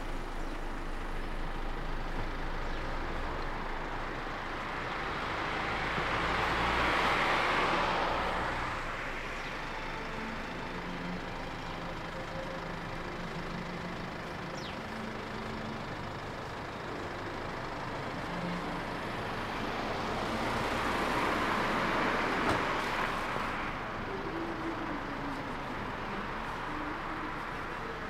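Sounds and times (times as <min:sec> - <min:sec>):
road traffic hum: 0:00.0 - 0:28.0
vehicle passing: 0:03.0 - 0:12.2, 0:12.8 - 0:28.0.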